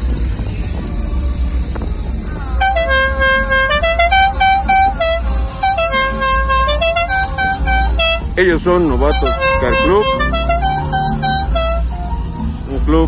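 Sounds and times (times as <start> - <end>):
low background rumble: 0.0 - 13.0
musical vehicle horn tune: 1.0 - 12.9.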